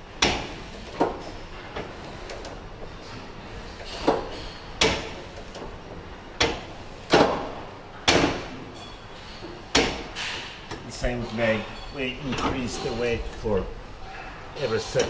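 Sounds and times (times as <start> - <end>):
machine weights clanking: 0.0 - 15.0.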